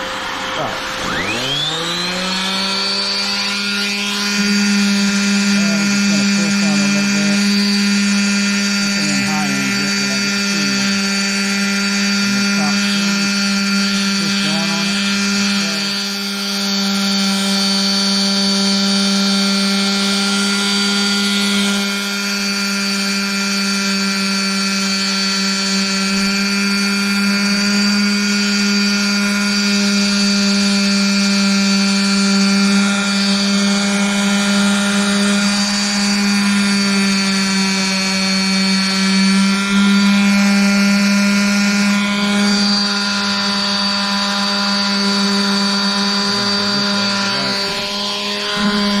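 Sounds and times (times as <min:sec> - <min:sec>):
electric power sander humming: 0:00.0 - 0:49.0.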